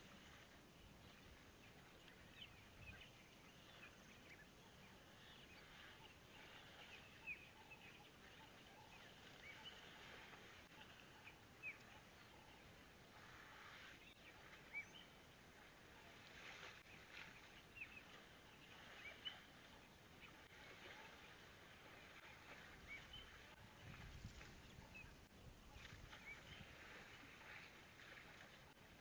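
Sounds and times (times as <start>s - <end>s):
small birds chirping: 1.7s - 28.4s.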